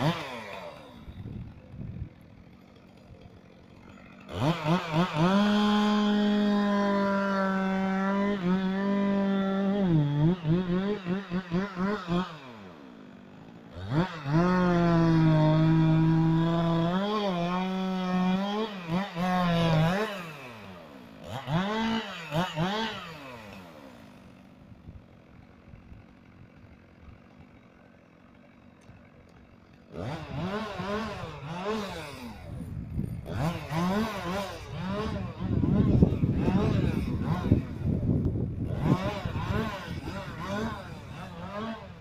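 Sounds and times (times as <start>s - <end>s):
chainsaw revving: 0.0s - 42.0s.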